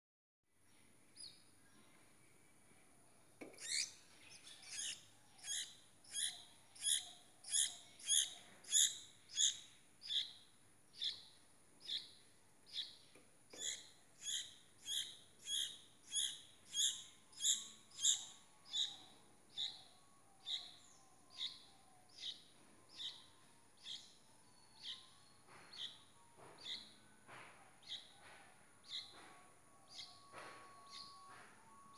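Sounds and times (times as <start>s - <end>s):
small bird chirping: 3.6s - 27.0s, 27.8s - 31.3s.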